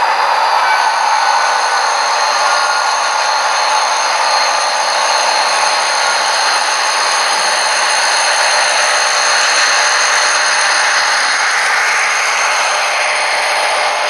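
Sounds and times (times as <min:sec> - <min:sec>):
model locomotive drone and whine: 0:00.0 - 0:14.0.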